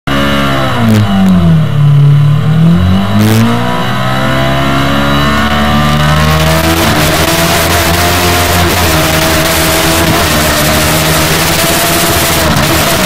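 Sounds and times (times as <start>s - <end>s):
kart engine revving: 0.1s - 13.0s.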